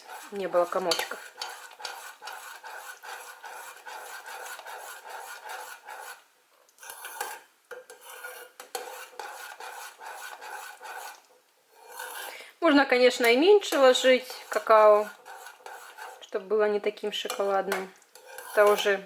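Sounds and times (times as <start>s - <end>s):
spoon scraping against pot: 0.0s - 6.2s, 6.8s - 12.4s, 13.1s - 16.4s, 17.0s - 19.0s.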